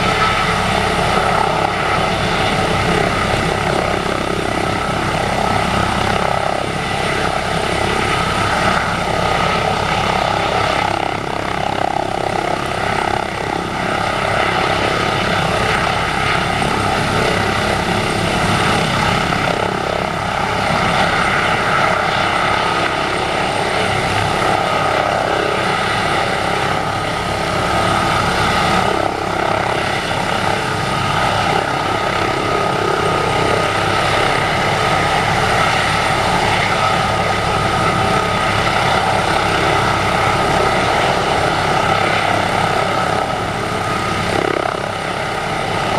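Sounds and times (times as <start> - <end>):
helicopter rotor noise: 0.0 - 45.9
helicopter turbine whine: 0.0 - 45.9.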